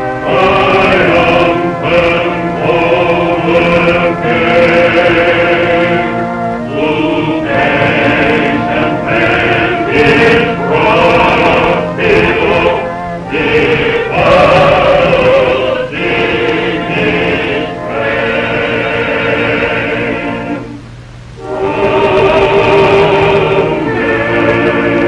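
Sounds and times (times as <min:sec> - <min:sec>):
choir singing a hymn: 0:00.0 - 0:20.8, 0:21.4 - 0:25.0.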